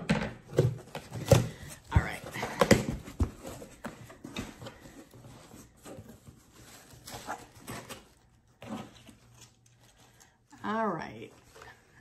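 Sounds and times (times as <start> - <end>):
cardboard box rustling: 0.5 - 10.2.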